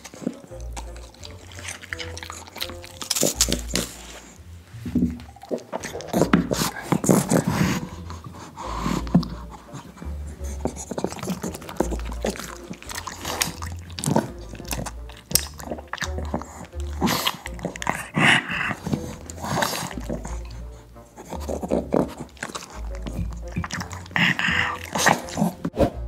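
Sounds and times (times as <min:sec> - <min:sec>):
dogs chewing crisp stalks: 0:00.0 - 0:04.4, 0:05.2 - 0:25.7
background music with pulsing bass: 0:00.4 - 0:26.0.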